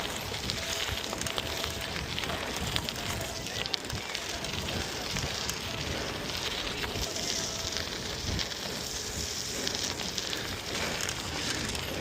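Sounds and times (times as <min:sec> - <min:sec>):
bicycle tyres rolling on path: 0:00.0 - 0:12.0
wind across microphone: 0:00.0 - 0:12.0.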